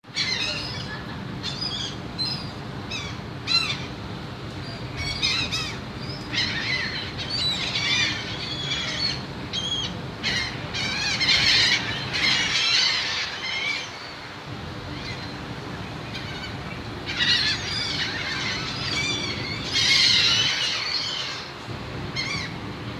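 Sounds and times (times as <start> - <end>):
flock of birds calling: 0.0 - 22.8
steady low hum: 0.0 - 22.9.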